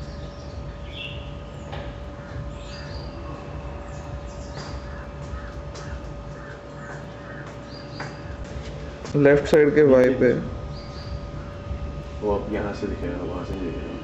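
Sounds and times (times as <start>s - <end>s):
birds calling: 0.0s - 14.0s
steady low hum: 0.0s - 14.0s.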